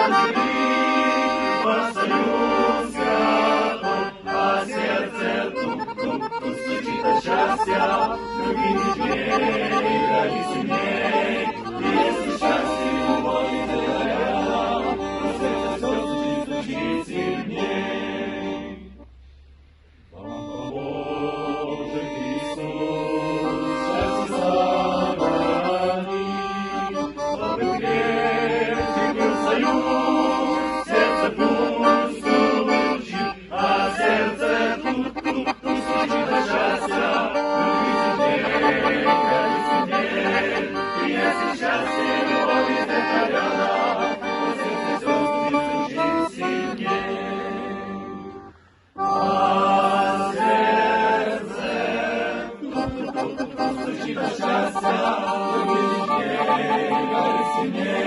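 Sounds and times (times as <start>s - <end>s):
reedy keyboard instrumental music: 0.0s - 19.3s, 20.2s - 58.0s.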